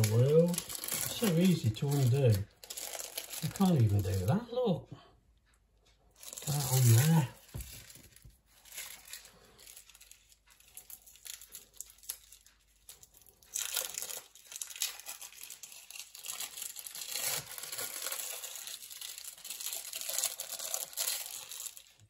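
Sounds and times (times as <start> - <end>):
plastic wrapping crinkling: 0.0 - 4.5, 6.2 - 22.0.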